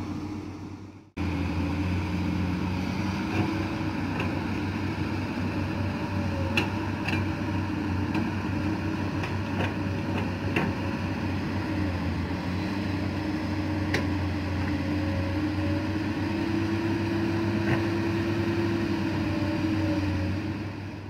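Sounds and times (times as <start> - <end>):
excavator diesel engines droning: 0.0 - 21.0.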